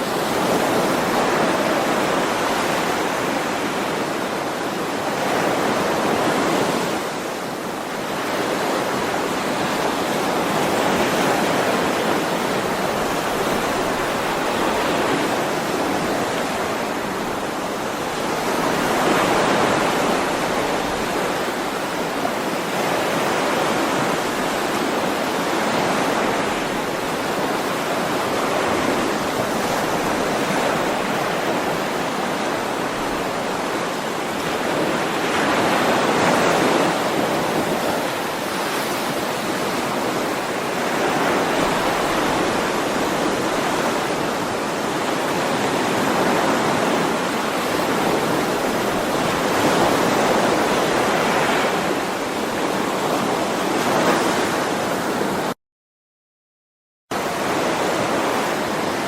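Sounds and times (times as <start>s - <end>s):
ocean waves breaking: 0.0s - 55.6s, 57.1s - 59.0s.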